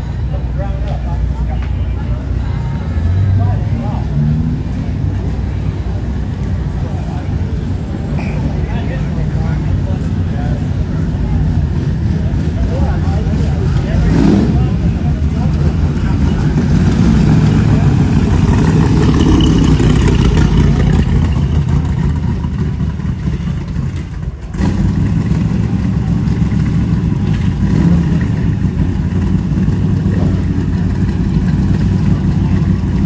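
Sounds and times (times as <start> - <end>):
car engines idling: 0.0 - 33.0.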